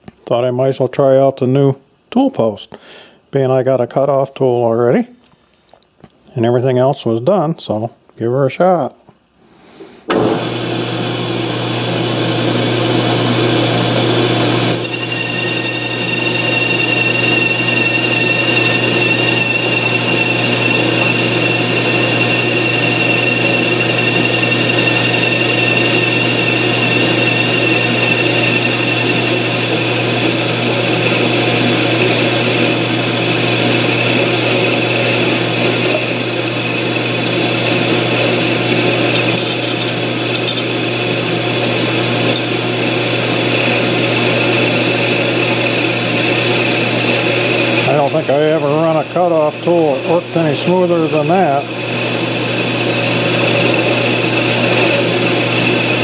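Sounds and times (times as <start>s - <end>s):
cutting tool high-pitched whine: 10.2s - 56.0s
lathe motor hum: 10.4s - 56.0s.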